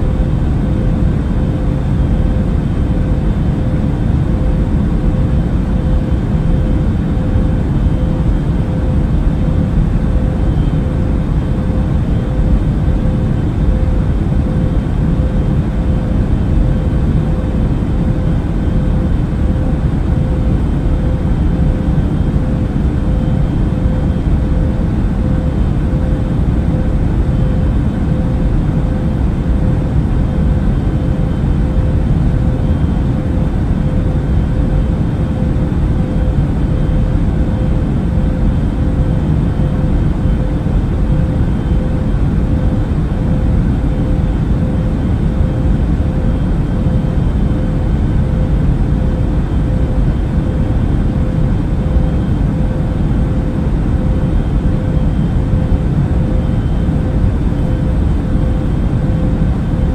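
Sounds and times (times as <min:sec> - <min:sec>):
faint constant hum: 0:00.0 - 0:59.9.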